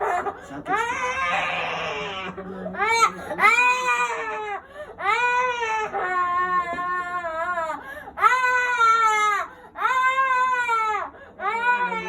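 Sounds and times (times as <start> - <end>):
baby crying: 0.0 - 12.0.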